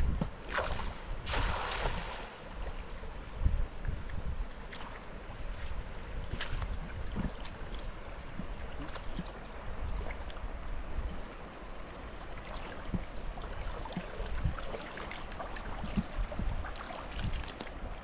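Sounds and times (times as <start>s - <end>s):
river water splashing and trickling: 0.0s - 18.0s
wind rumble on microphone: 0.0s - 18.0s.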